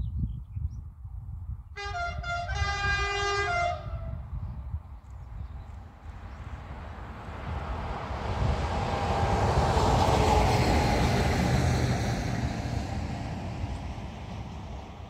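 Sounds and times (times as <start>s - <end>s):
train passing rumble: 1.8s - 15.0s.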